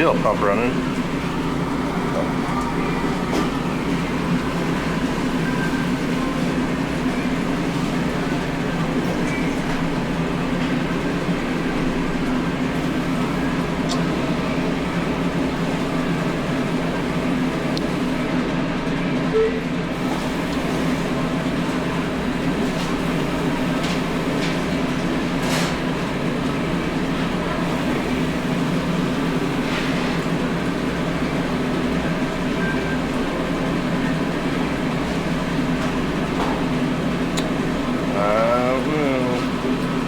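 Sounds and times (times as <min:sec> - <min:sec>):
oven pumps humming: 0:00.0 - 0:40.0.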